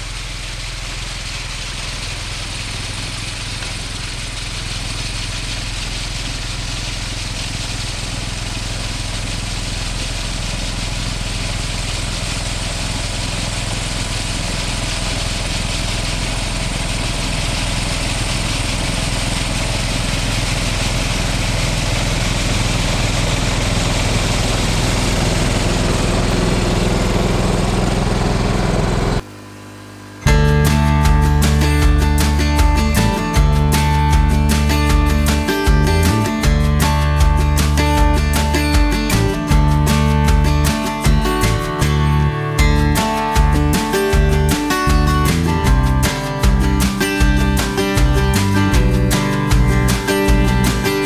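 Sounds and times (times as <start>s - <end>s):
lawn tractor engine running: 0.0s - 51.0s.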